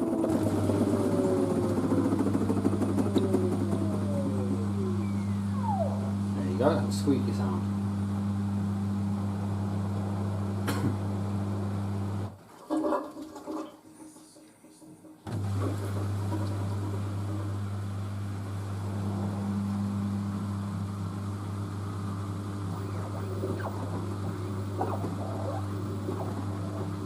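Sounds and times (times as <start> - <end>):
drain pump humming: 0.0 - 13.8, 15.2 - 27.0.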